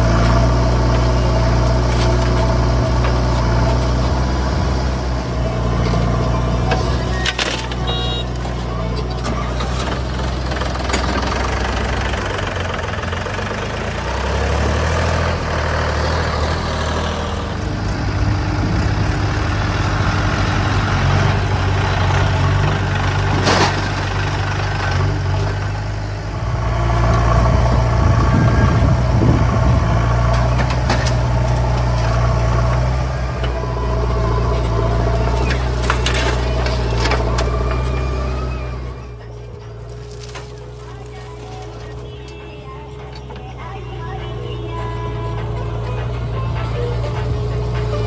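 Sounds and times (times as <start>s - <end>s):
diesel engines running: 0.0s - 48.0s.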